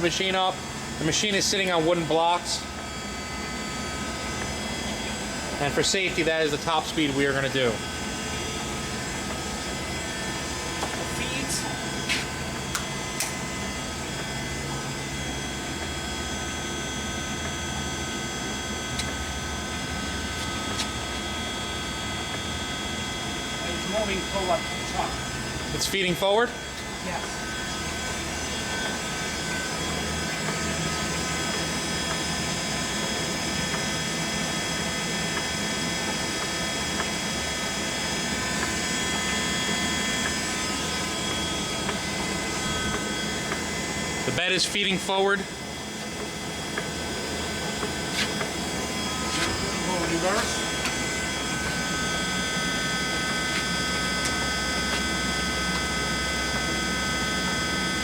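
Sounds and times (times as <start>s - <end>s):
lathe gearing whine and hum: 0.0s - 58.0s.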